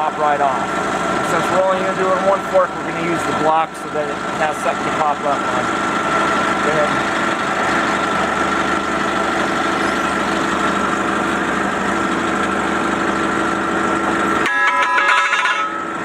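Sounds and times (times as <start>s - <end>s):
forklift engine idling: 0.0s - 14.5s.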